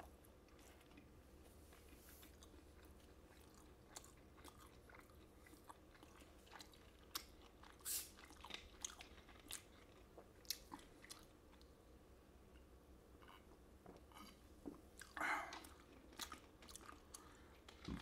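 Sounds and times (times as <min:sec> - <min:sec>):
man chewing food: 0:00.0 - 0:18.0.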